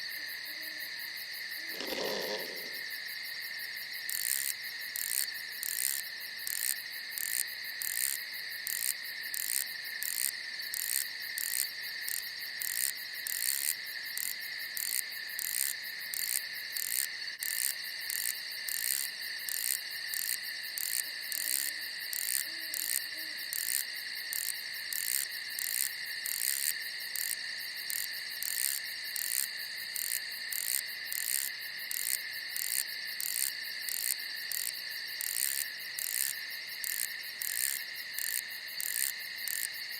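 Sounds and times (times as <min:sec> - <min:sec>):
crickets trilling: 0:00.0 - 0:39.9
pulsing cricket chirp: 0:00.0 - 0:39.9.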